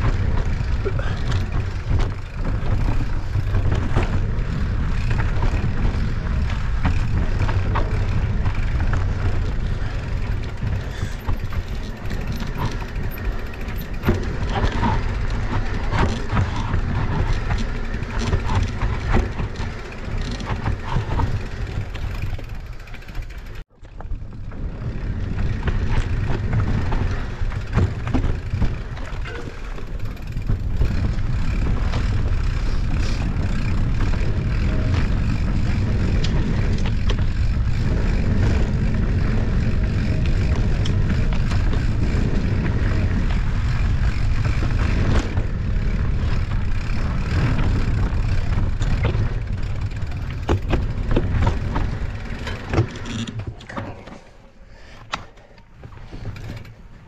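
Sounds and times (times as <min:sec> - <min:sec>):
bike clicks and rattles: 0:00.0 - 0:57.0
wind and tyre rolling rumble: 0:00.0 - 0:57.0.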